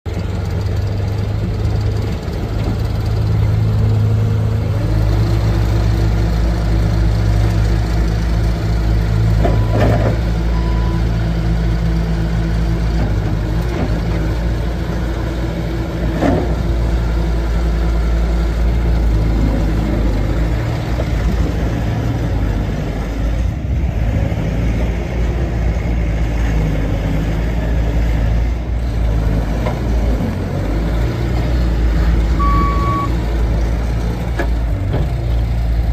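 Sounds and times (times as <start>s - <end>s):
diesel engine running: 0.1s - 35.9s.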